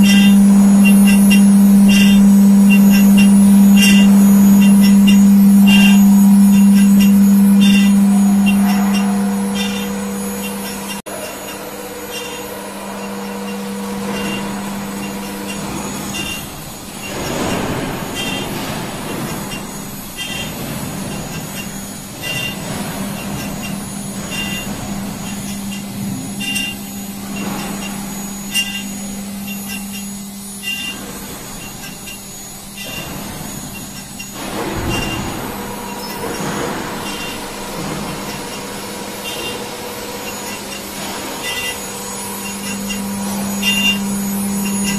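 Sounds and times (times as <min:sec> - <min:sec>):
milling machine humming: 0:00.0 - 0:44.9.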